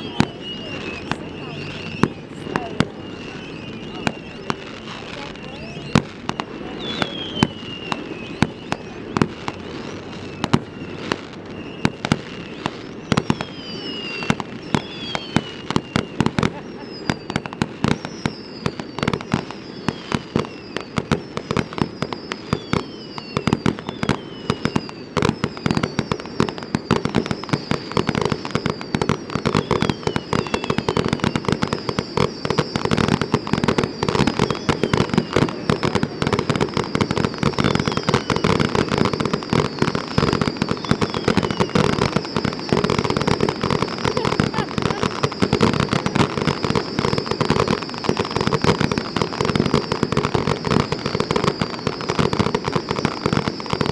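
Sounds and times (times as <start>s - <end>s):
fireworks bangs and crackles: 0.0s - 53.9s
whistles falling in pitch: 0.0s - 53.9s.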